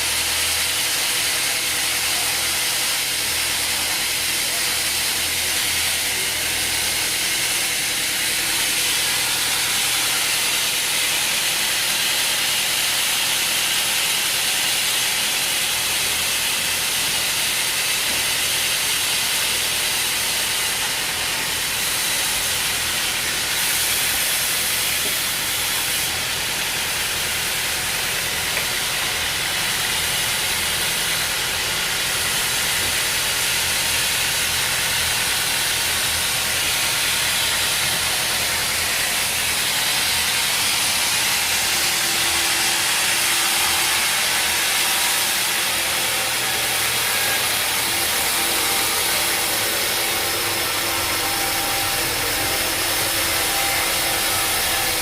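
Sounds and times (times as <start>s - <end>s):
machinery hiss: 0.0s - 55.0s.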